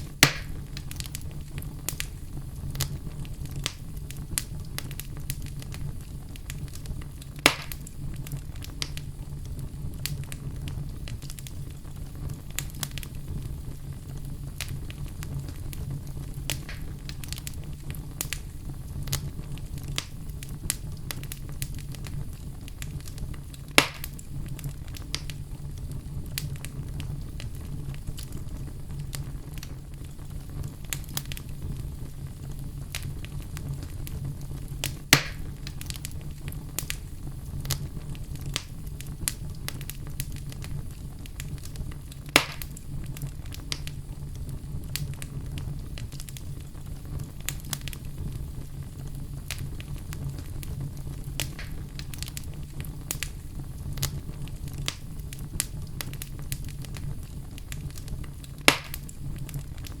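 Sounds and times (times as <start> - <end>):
loud fire pops: 0.0 - 60.0
low fire rumble: 0.0 - 60.0
wood fire crackling: 0.0 - 60.0.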